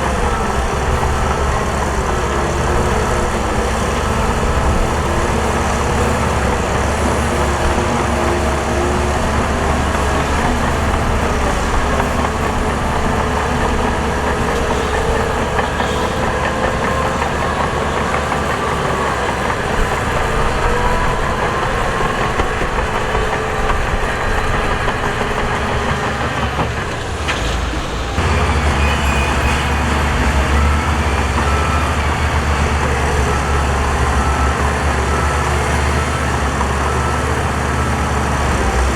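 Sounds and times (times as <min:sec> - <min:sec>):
diesel construction machinery running: 0:00.0 - 0:38.9.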